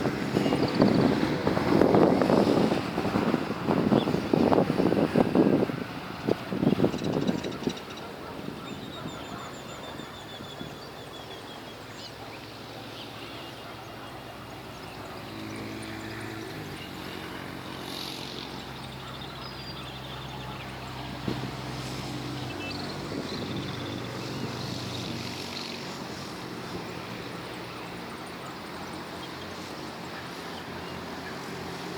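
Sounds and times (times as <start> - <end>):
distant traffic: 0.0 - 31.9.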